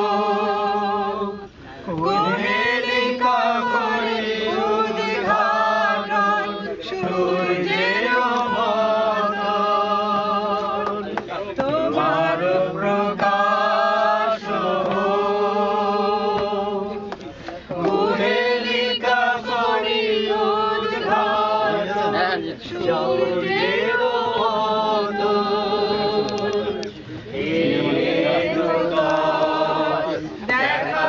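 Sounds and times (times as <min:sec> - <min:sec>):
group singing unaccompanied: 0:00.0 - 0:31.0.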